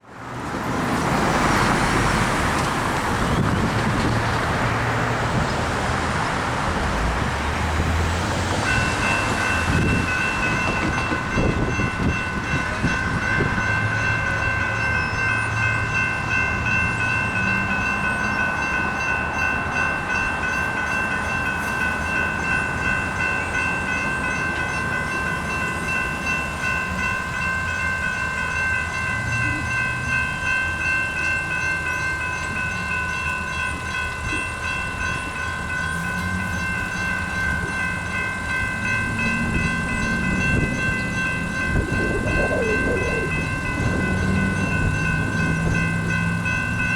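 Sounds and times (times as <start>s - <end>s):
road traffic passing: 0.0s - 46.9s
crossing warning bells dinging: 0.2s - 46.9s.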